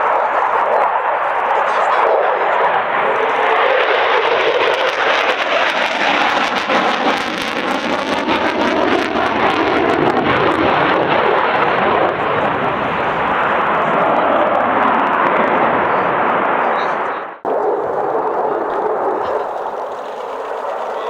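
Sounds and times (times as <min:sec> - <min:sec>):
jet engines in flight: 0:00.0 - 0:21.0.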